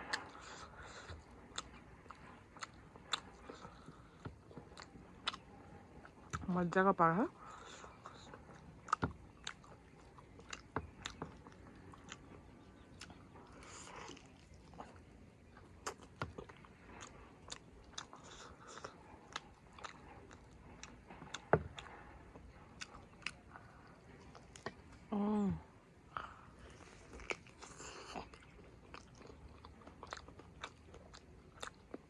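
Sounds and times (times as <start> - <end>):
chewing and biting food: 0.0 - 6.7, 7.4 - 25.1, 26.1 - 32.0.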